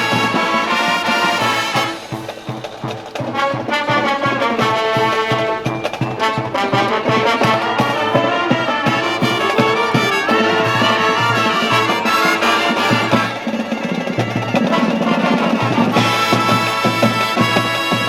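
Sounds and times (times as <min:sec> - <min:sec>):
brass section playing: 0:00.0 - 0:18.0
marching drums beat: 0:00.0 - 0:18.0.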